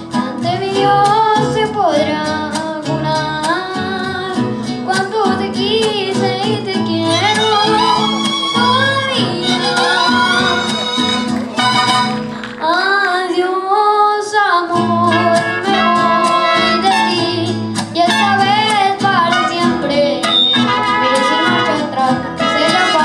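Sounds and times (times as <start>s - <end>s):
mariachi band playing: 0.0s - 13.0s, 14.8s - 23.0s.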